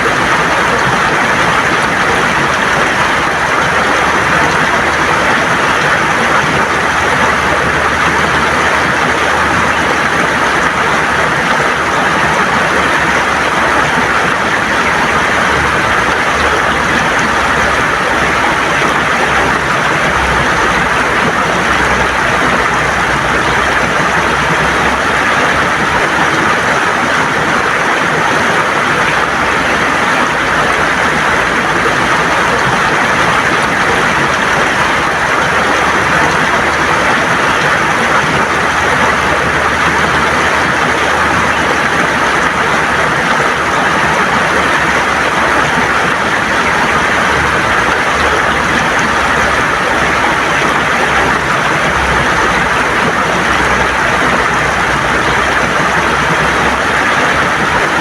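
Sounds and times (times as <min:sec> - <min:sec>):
river water gurgling over stones: 0:00.0 - 0:58.0.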